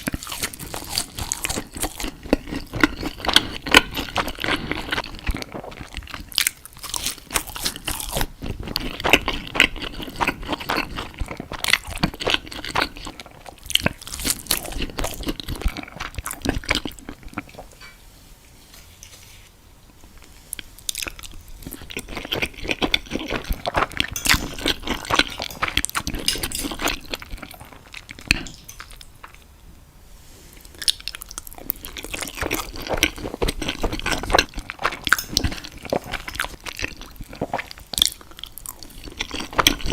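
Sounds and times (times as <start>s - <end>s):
crunching and chewing food: 0.0s - 17.9s, 20.2s - 29.5s, 30.6s - 39.9s.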